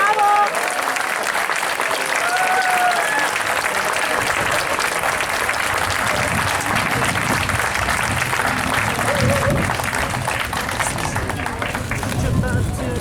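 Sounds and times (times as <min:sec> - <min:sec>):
audience applauding: 0:00.0 - 0:13.0
voices calling out from crowd: 0:00.0 - 0:13.0.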